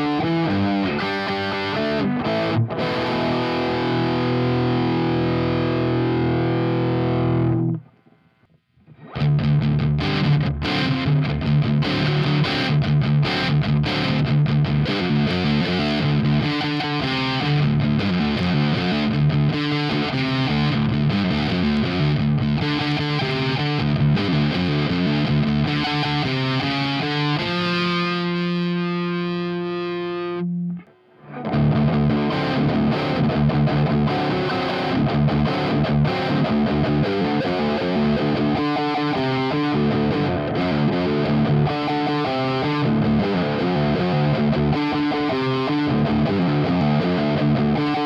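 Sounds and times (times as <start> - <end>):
distorted electric guitar riffs: 0.0 - 48.0.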